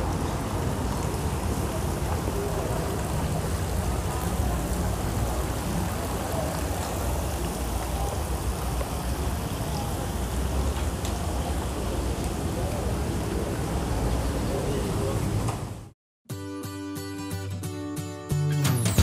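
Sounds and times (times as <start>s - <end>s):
distant chatter of people: 0.0s - 15.9s
continuous rush of noise: 0.0s - 16.0s.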